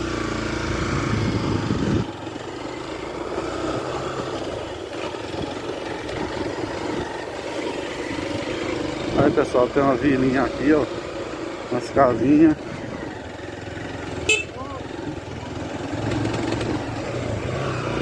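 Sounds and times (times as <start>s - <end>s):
engine running: 0.0s - 18.0s
rough weak engine sound: 0.0s - 18.0s.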